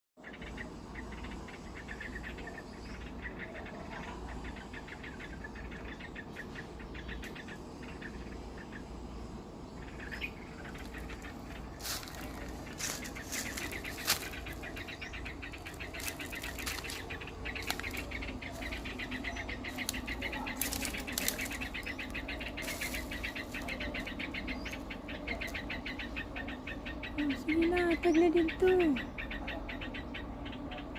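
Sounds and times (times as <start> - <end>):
low steady hum: 0.2 - 30.9
pulsed chirping: 0.3 - 30.9.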